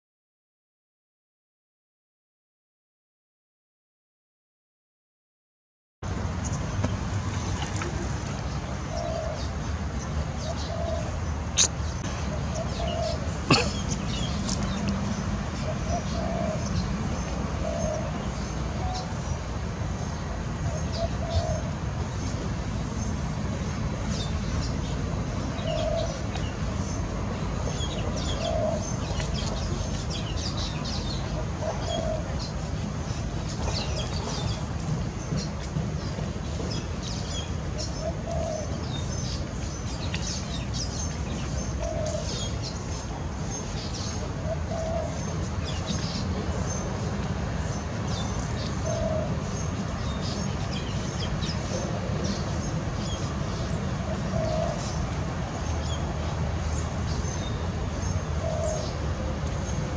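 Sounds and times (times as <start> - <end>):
birds chirping: 6.3 - 59.9.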